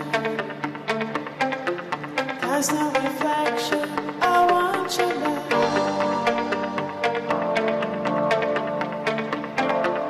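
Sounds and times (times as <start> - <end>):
electronic beat music with chords: 0.0 - 10.0.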